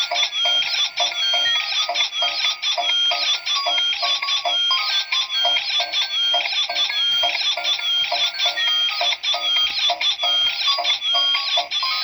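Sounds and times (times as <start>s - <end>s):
music with repeating high notes: 0.0s - 12.0s.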